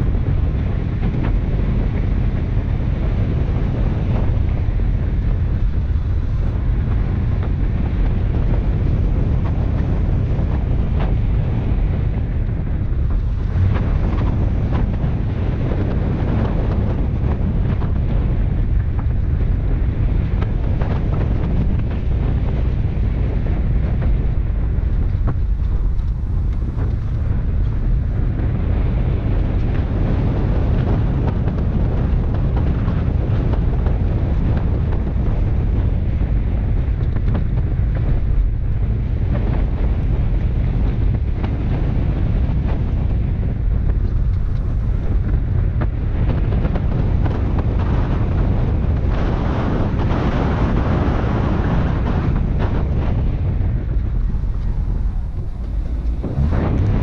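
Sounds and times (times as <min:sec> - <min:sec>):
road rumble: 0:00.0 - 0:57.0
wind buffeting microphone: 0:00.0 - 0:57.0.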